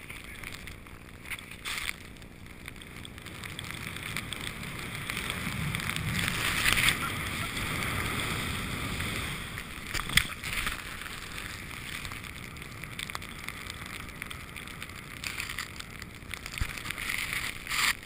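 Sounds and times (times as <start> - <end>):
skis hissing over snow: 0.0 - 2.2, 3.2 - 15.8, 16.4 - 18.0
wind on microphone: 0.0 - 18.0
light clicks and scrapes: 0.1 - 7.1, 9.5 - 18.0.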